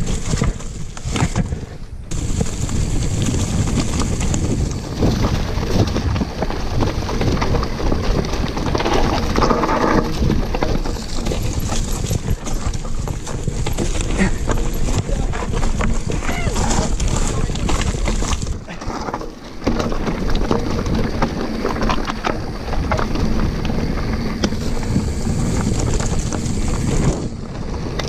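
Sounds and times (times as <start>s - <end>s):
wind buffeting microphone: 0.0s - 18.8s, 19.6s - 28.0s
bike rattling over bumps: 0.0s - 28.0s
tyres crunching over stones: 0.0s - 28.0s.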